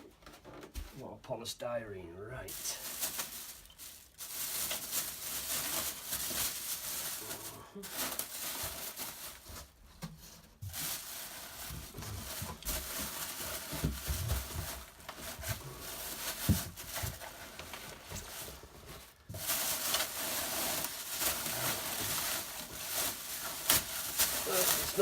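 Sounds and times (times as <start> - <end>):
polystyrene and cardboard rustling: 2.4 - 25.0.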